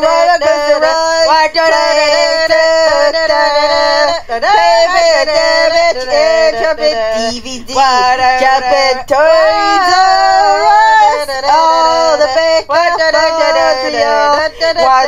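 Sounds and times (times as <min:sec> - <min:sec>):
person singing long notes: 0:00.0 - 0:15.0.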